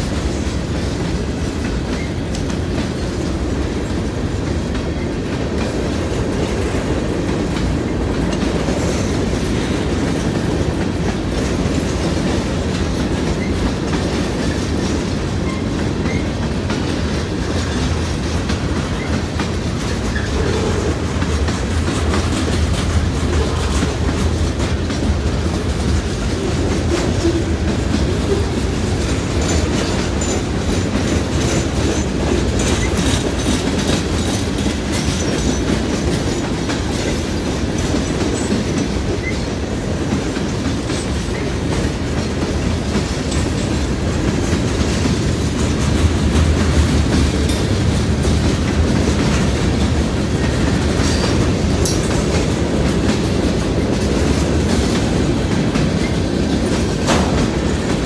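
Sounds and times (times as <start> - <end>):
wheels clicking over rail joints: 0.0 - 58.0.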